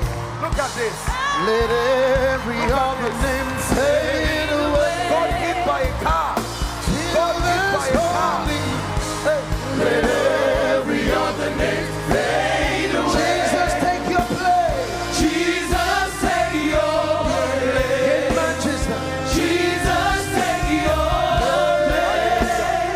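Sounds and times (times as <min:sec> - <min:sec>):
band with bass and drums: 0:00.0 - 0:22.9
choir singing gospel: 0:01.0 - 0:22.9.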